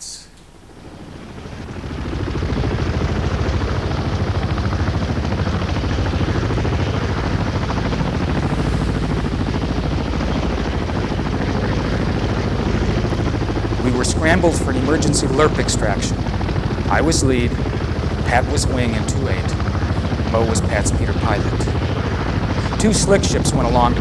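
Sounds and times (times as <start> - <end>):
helicopter blade chop: 0.8 - 24.0.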